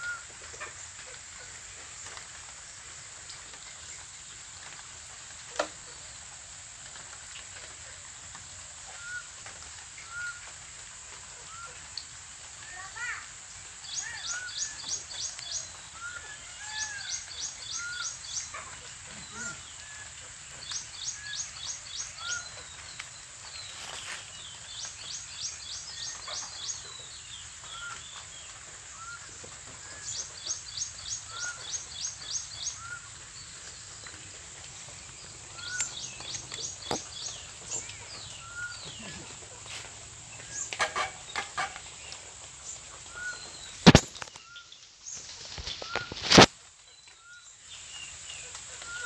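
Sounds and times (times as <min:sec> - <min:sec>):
high insect hiss: 0:00.1 - 0:49.0.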